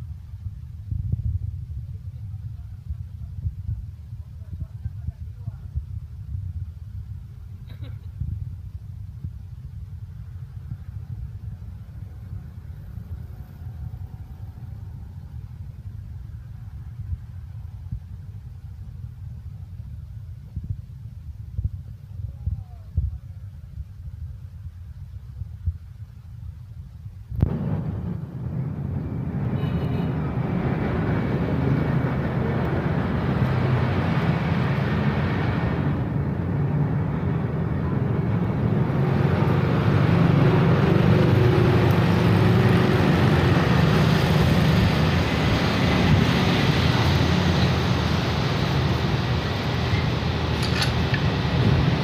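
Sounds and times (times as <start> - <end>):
traffic engines rumbling: 0.0 - 20.5, 27.4 - 52.0.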